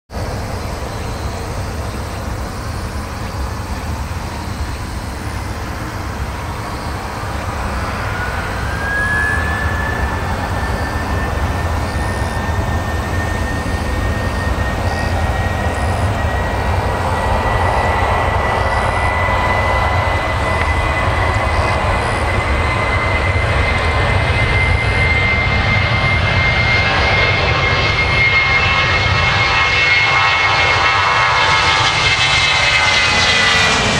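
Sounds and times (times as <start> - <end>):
high whine over low rumble: 0.2 - 33.9
jet engines spooling up: 0.2 - 33.9.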